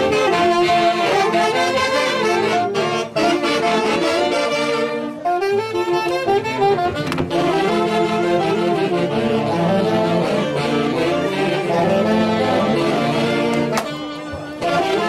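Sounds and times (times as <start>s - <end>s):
band with saxophones and brass: 0.0s - 15.0s.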